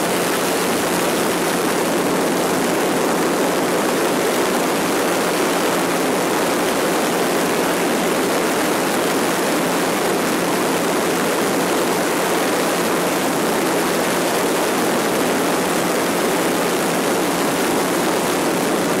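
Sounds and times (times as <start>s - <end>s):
aircraft engine and airflow rush: 0.0s - 19.0s.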